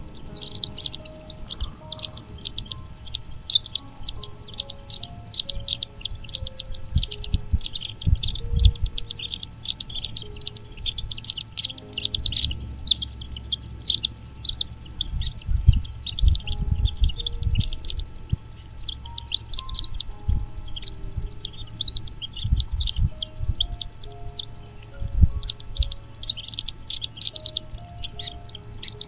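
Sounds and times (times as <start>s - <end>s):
birds chirping rapidly: 0.0s - 29.0s
soft background music: 0.0s - 29.0s.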